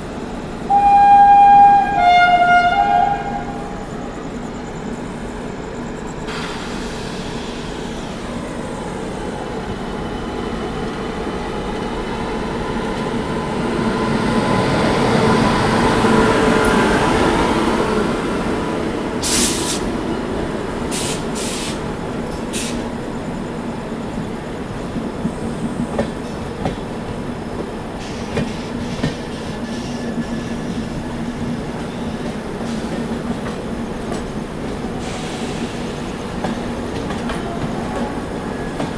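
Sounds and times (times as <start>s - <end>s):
train rumbling on rails: 0.0s - 38.9s.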